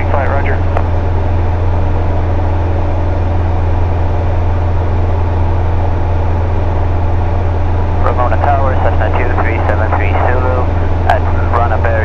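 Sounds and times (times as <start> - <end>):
light aircraft engine droning: 0.0 - 12.0
low hum: 0.0 - 12.0.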